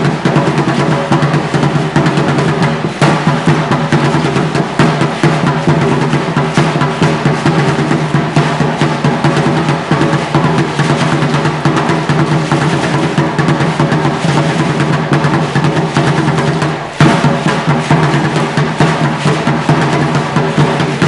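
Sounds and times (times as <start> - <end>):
upright drum rhythm: 0.0 - 21.0.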